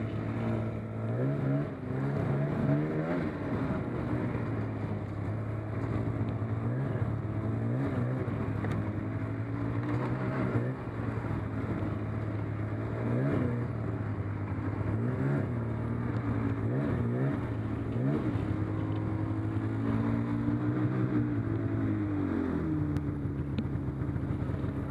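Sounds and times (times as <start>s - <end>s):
snowmobile engine running: 0.0s - 24.9s.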